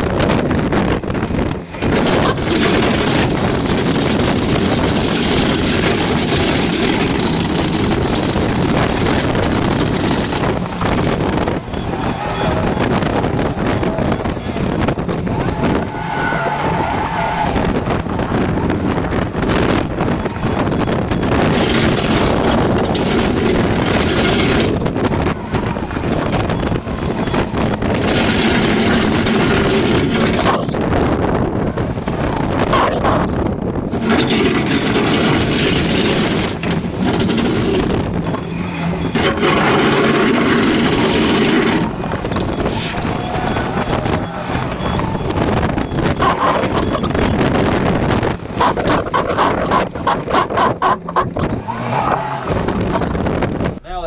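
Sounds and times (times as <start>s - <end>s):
heavy machinery engine running: 0.0s - 53.8s
wind buffeting microphone: 0.0s - 53.9s.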